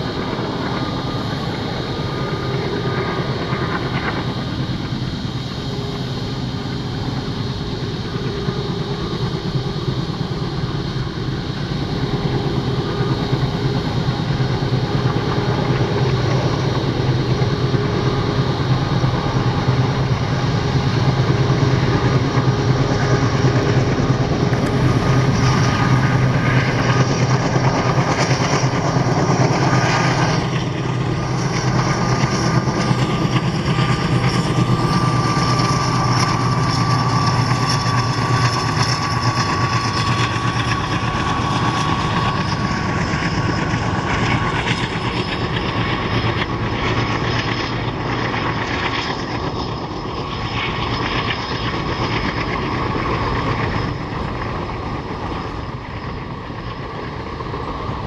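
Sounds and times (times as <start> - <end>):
diesel locomotive engines rumbling: 0.0 - 58.0.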